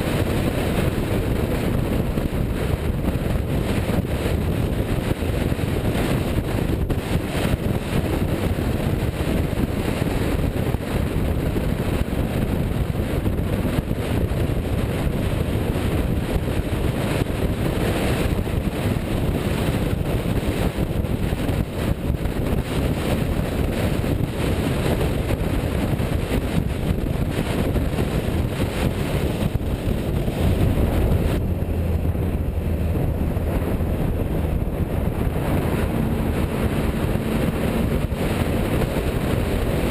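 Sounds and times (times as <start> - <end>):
car running: 0.0 - 39.9
deep steady engine hum: 0.0 - 39.9
wind buffeting microphone: 0.0 - 39.9.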